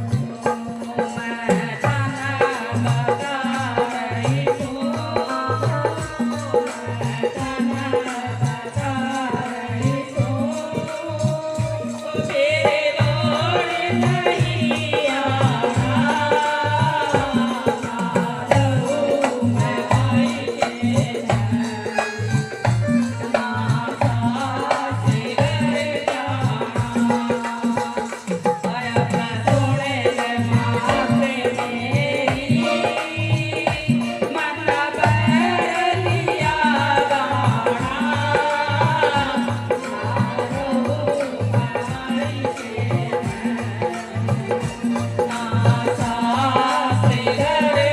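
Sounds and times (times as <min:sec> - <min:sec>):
hand drum beat: 0:00.0 - 0:47.9.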